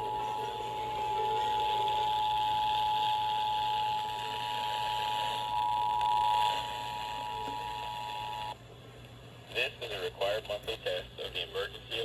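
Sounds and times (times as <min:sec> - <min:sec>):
radio background hiss: 0:00.0 - 0:08.6, 0:09.5 - 0:12.0.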